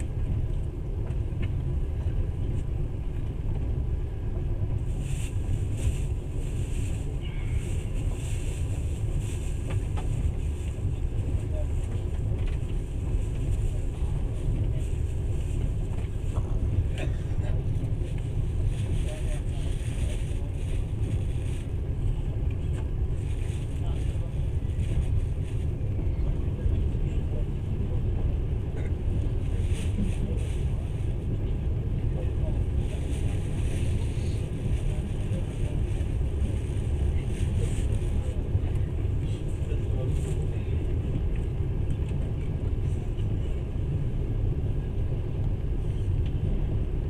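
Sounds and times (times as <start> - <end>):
train rumbling from inside carriage: 0.0 - 47.0.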